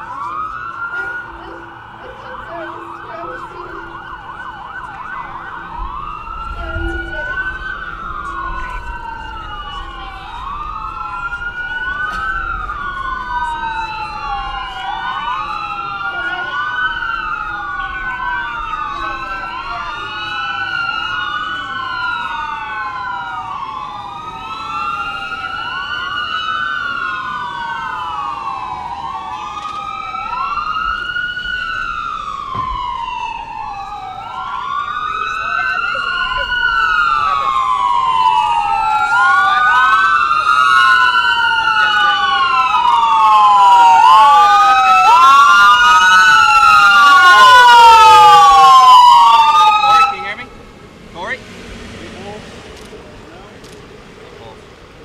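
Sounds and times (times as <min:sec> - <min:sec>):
emergency sirens wailing: 0:00.0 - 0:55.0.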